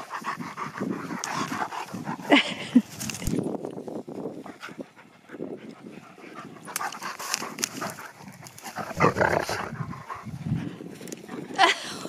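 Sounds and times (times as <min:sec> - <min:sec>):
dogs panting and scuffling: 0:00.0 - 0:11.6.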